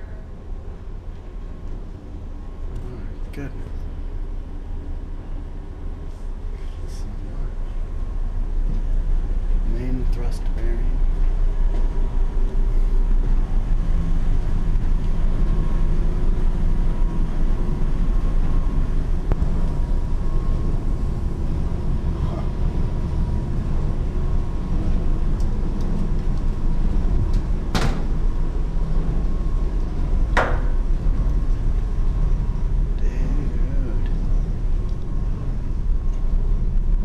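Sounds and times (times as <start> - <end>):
engine room rumble: 0.0 - 37.0
faint even whine: 0.0 - 37.0.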